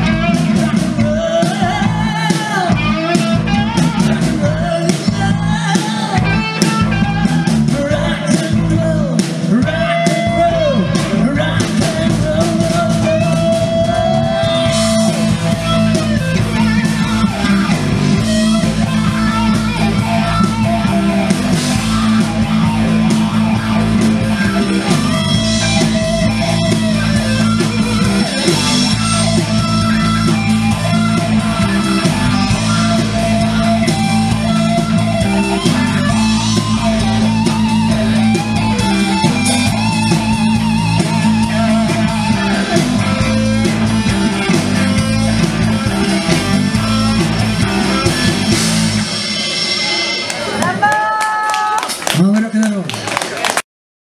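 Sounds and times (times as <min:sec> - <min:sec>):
person singing: 0:00.0 - 0:48.7
electric guitar: 0:00.0 - 0:53.5
drums: 0:00.0 - 0:53.6.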